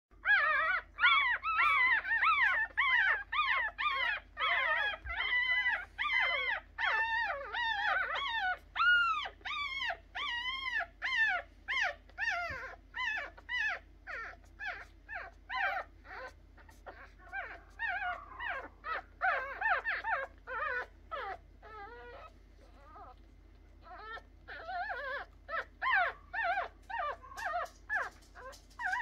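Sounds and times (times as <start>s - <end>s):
puppies squealing: 0.2s - 23.2s, 23.8s - 29.0s.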